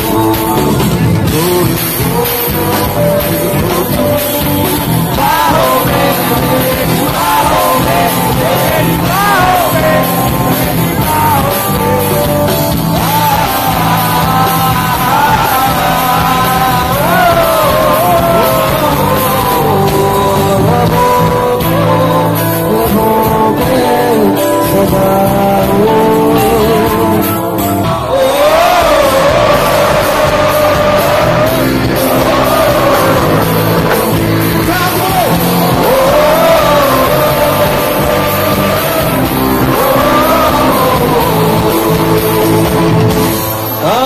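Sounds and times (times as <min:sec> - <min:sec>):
lead singer singing: 0:00.0 - 0:44.0
live rock band: 0:00.0 - 0:44.0.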